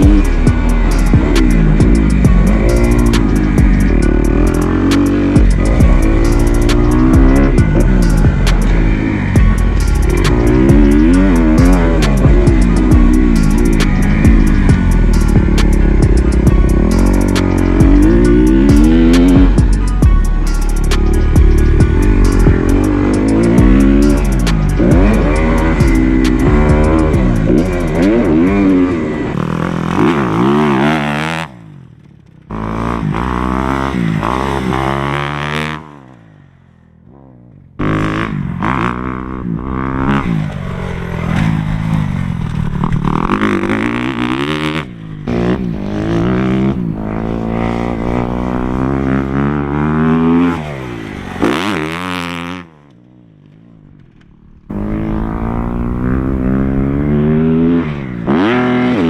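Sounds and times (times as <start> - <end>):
motocross bike engine revving: 0.0 - 36.4, 37.8 - 52.8, 54.6 - 59.0.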